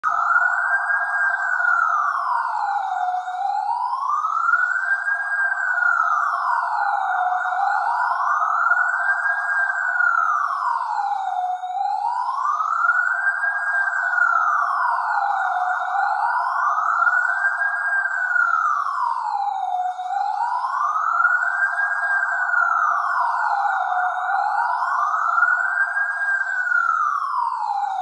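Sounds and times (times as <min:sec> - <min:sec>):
police siren wailing: 0:00.0 - 0:28.0.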